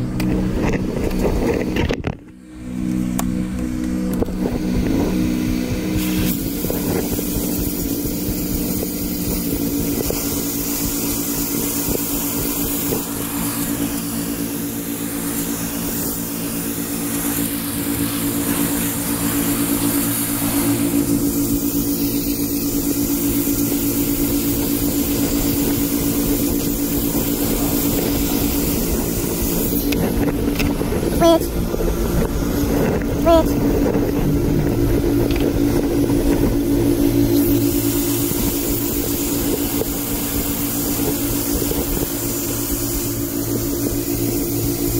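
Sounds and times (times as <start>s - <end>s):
pressure washer engine running: 0.0s - 44.9s
water jet hissing on bricks: 0.0s - 44.9s.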